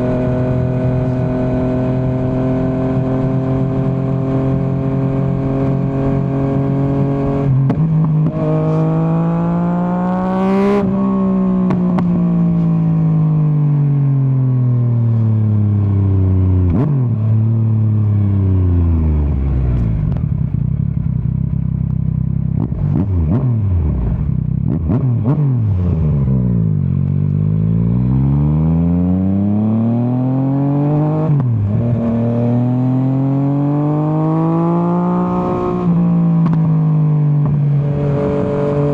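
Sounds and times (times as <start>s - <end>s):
motorcycle engine revving: 0.0s - 13.0s, 15.8s - 38.9s.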